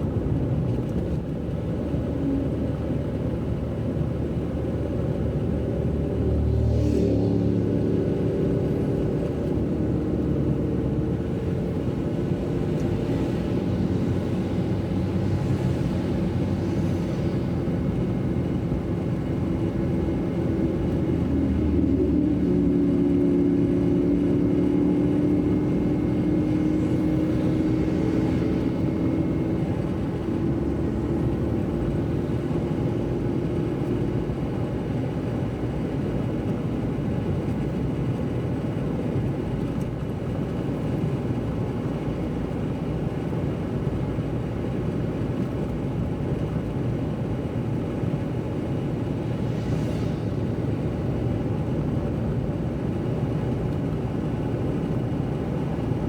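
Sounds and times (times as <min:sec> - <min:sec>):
car engine and tyres on wet road: 0:00.0 - 0:56.0.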